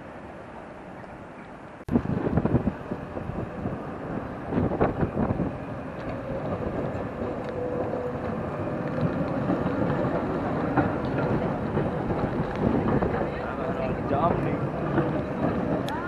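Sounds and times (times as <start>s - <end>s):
tram rumbling past: 0.0s - 16.0s.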